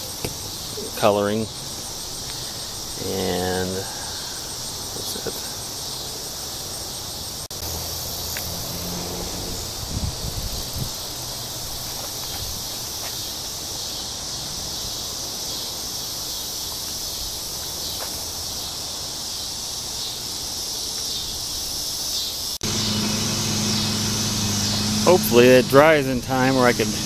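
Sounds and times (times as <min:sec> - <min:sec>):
insects calling: 0:00.0 - 0:27.0.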